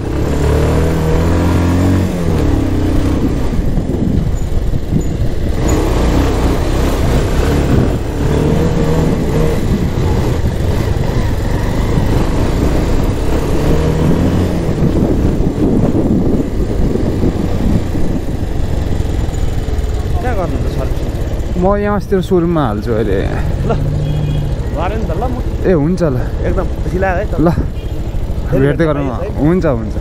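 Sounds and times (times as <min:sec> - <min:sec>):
motorcycle engine: 0:00.0 - 0:30.0
road traffic rumble: 0:00.0 - 0:30.0.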